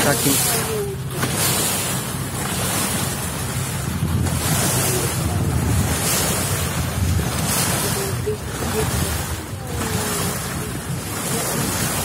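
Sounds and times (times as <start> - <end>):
boat engine hum: 0.0 - 12.0
water washing against boat: 0.0 - 12.0
wind buffeting microphone: 0.0 - 12.0.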